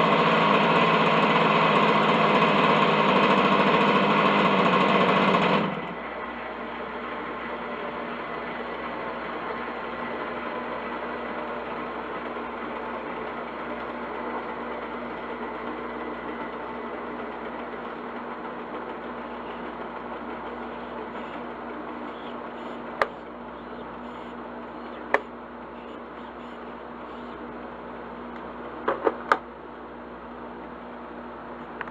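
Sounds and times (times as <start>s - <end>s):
model helicopter engine idling: 0.0s - 28.2s.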